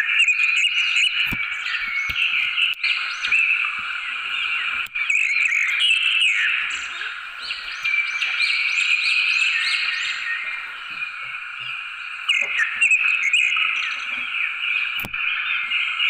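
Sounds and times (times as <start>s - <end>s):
chorus of animal calls: 0.0s - 16.0s.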